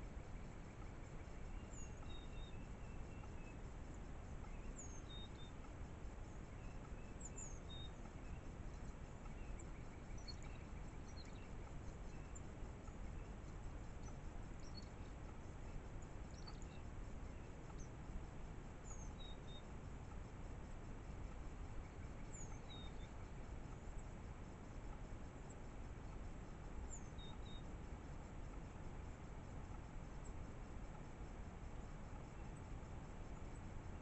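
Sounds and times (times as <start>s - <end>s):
songbirds chirping and whistling: 0.0s - 31.0s
steady low hiss: 0.0s - 34.0s.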